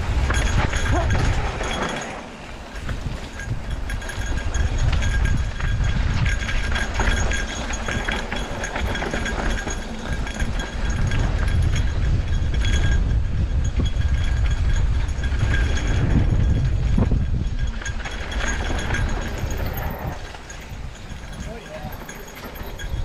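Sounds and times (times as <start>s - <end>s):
bike clattering and rattling: 0.0s - 23.0s
wind and tyre rumble: 0.0s - 23.0s.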